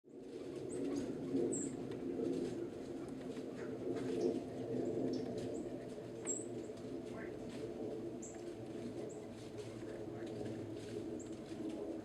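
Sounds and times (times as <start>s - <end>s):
steady low hum: 0.1s - 12.0s.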